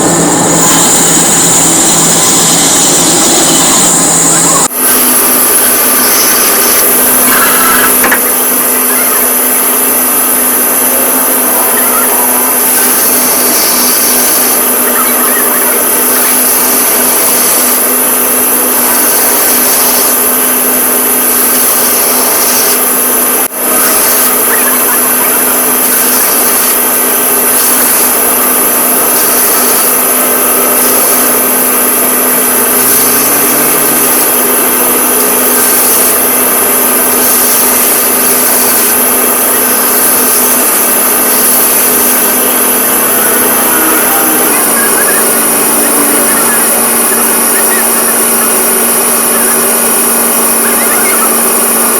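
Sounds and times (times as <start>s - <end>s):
woodworking power tool running: 0.0s - 51.9s.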